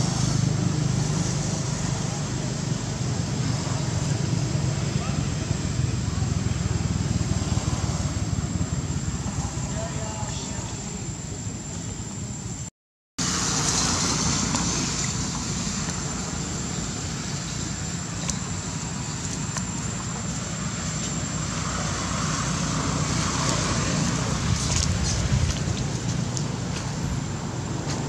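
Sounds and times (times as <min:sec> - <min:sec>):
low rumble with hiss: 0:00.0 - 0:28.0.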